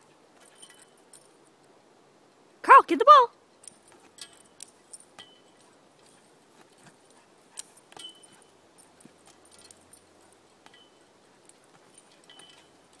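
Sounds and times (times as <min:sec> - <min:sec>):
metallic clinks and jingles: 0:00.1 - 0:01.7, 0:03.4 - 0:13.0.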